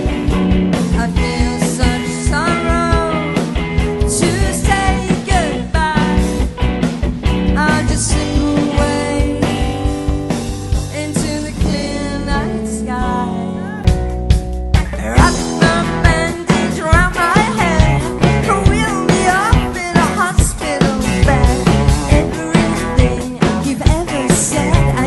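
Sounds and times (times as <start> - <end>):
drum kit beat: 0.0 - 25.0
guitar: 0.0 - 25.0
rock music: 0.0 - 25.0.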